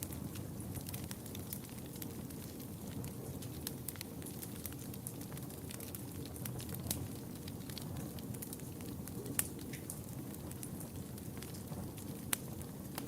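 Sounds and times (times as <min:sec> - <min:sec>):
low fire rumble: 0:00.0 - 0:13.0
small fire crackles: 0:00.0 - 0:13.0.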